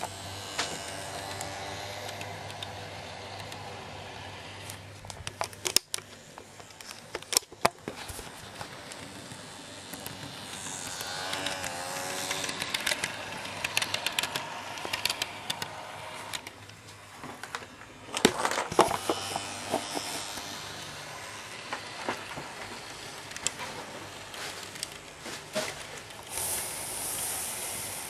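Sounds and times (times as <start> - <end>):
model train motor hum: 0.0 - 28.0.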